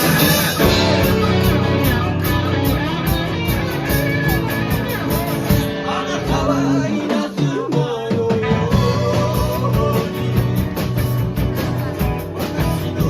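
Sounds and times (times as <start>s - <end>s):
guitars strumming: 0.0s - 7.6s, 8.3s - 13.0s
drum beat: 0.0s - 13.0s.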